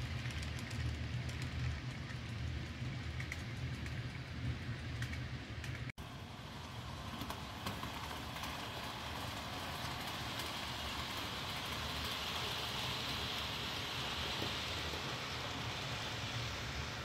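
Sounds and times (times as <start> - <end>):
model train wheels rumbling on rails: 0.0 - 17.0.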